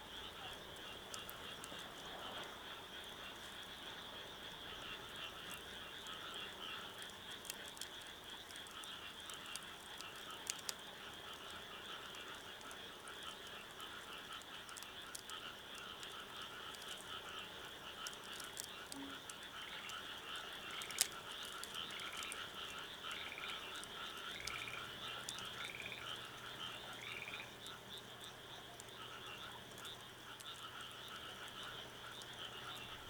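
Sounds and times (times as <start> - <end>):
frogs calling: 0.0 - 33.0
wood fire crackling: 5.0 - 33.0.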